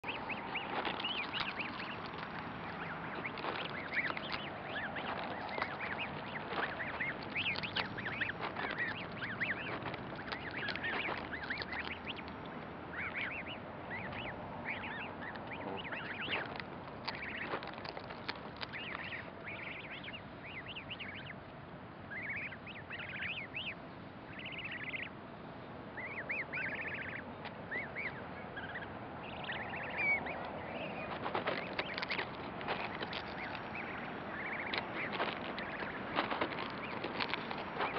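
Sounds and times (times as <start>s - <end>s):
goslings peeping: 0.0s - 37.9s.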